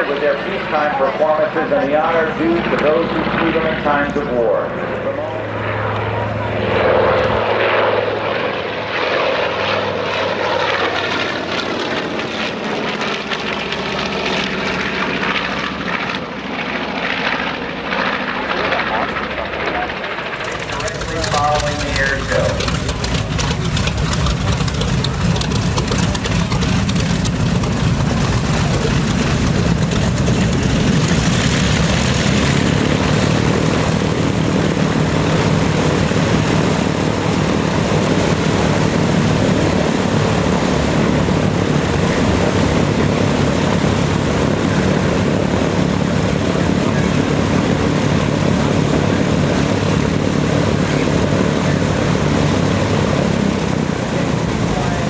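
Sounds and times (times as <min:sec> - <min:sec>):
propeller plane droning overhead: 0:00.0 - 0:55.0.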